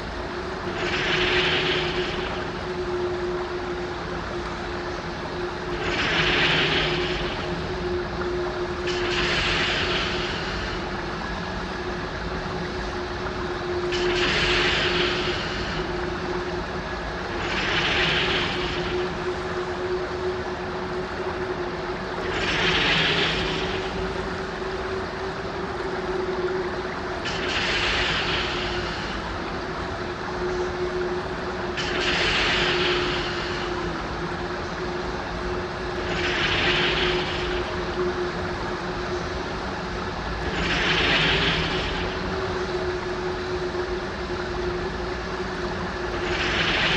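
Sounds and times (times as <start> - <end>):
low humming drone: 0.0 - 46.9.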